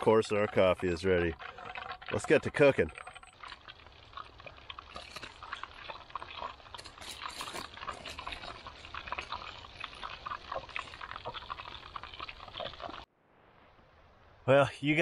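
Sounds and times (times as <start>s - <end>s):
oil popping: 0.0s - 13.1s
food sizzling in hot oil: 0.4s - 13.1s.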